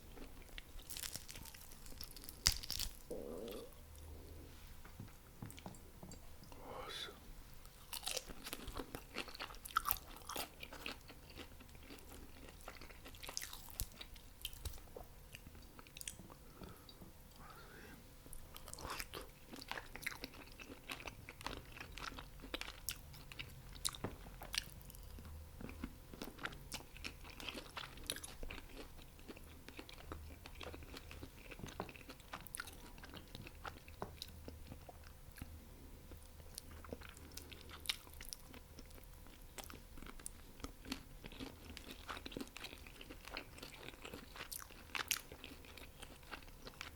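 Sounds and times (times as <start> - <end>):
faint steady hum: 0.0 - 46.9
person crunching and chewing food: 0.1 - 4.4, 7.7 - 17.5, 18.5 - 46.9.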